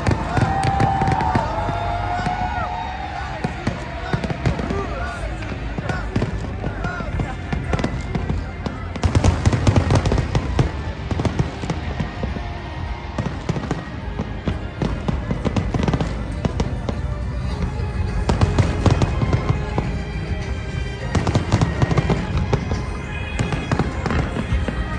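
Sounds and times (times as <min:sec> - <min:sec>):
fireworks bursting and crackling: 0:00.0 - 0:24.9
music playing: 0:00.0 - 0:24.9.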